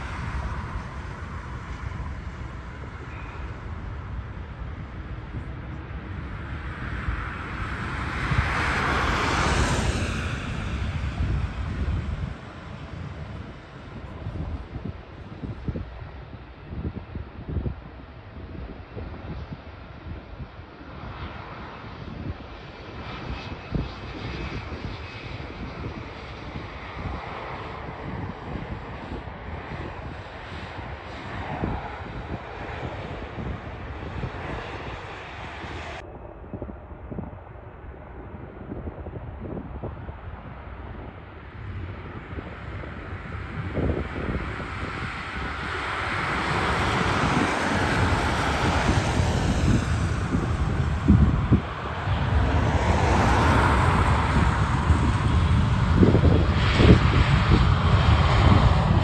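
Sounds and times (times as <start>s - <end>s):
jet engines roaring: 0.0s - 59.0s
wind buffeting microphone: 0.0s - 59.0s.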